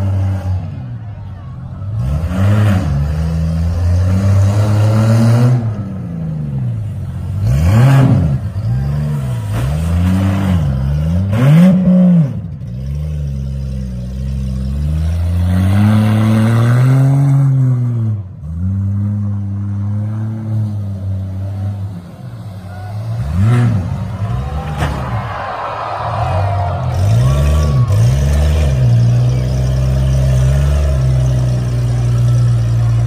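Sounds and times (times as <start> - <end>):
suv engines revving hard: 0.0 - 1.0, 1.8 - 33.0.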